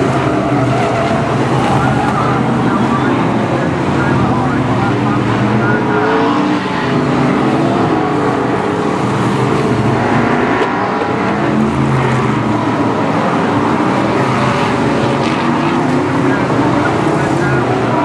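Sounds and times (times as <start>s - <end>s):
stock car engines running hard: 0.0s - 18.0s.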